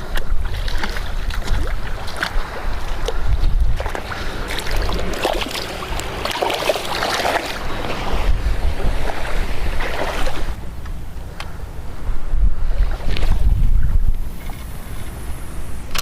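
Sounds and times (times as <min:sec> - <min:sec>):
seawater splashing: 0:00.0 - 0:12.0, 0:12.6 - 0:15.6
wind buffeting microphone: 0:00.0 - 0:16.0.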